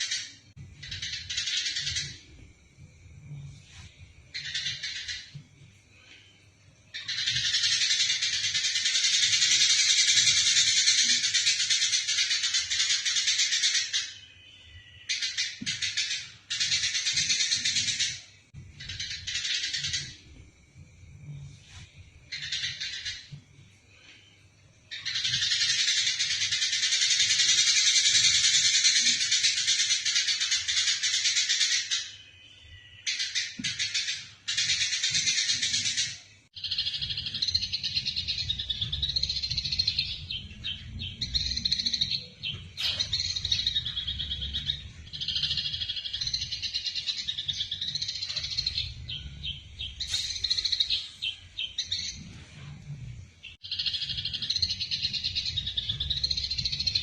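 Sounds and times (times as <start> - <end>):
sparrows chattering: 4.3 - 5.4, 6.9 - 20.3, 22.3 - 23.4, 24.9 - 52.7, 53.4 - 57.0.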